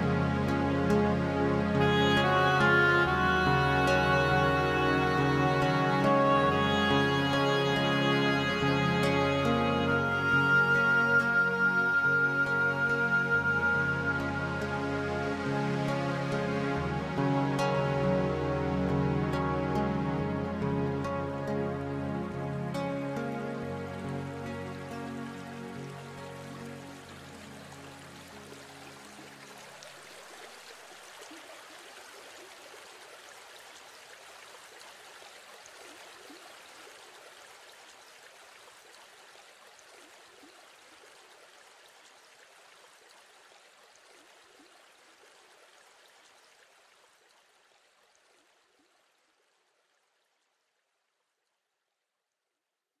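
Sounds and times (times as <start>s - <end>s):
stream gurgling: 0.0s - 51.8s.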